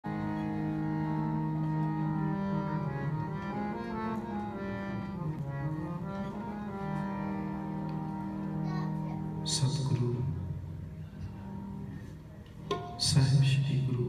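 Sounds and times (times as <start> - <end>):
harmonium playing chords: 0.0 - 14.0.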